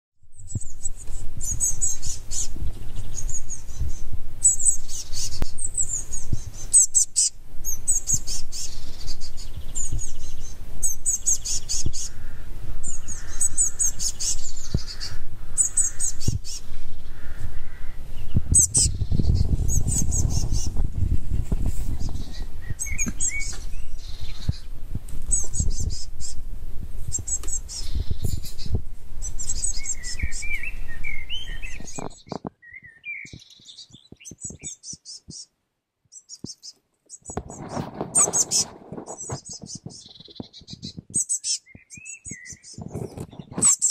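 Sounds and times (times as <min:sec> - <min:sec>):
bird chirping high and rapid: 0:00.3 - 0:12.2, 0:12.8 - 0:17.1, 0:18.2 - 0:20.8, 0:21.9 - 0:24.7, 0:25.3 - 0:26.4, 0:27.1 - 0:35.5, 0:36.1 - 0:43.9.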